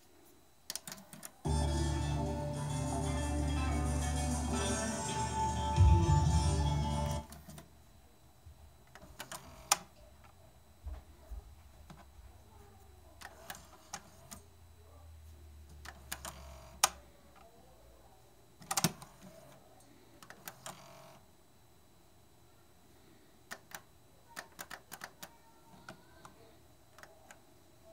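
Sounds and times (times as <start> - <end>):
faint low hum: 0.0 - 27.9.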